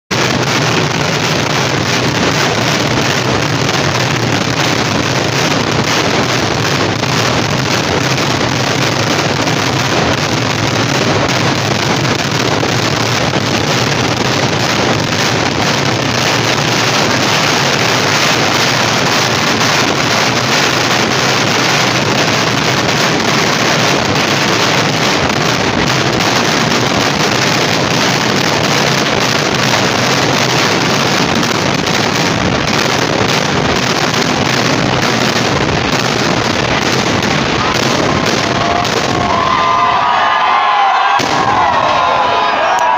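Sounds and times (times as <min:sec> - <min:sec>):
firecracker barrage roar: 0:00.1 - 0:42.9.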